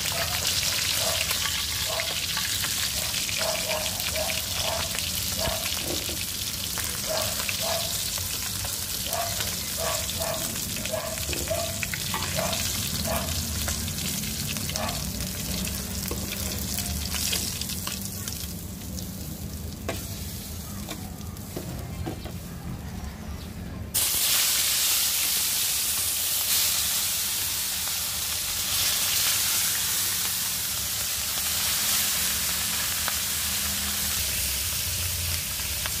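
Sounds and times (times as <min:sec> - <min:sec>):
fish frying in hot oil: 0:00.0 - 0:20.8, 0:24.0 - 0:36.0.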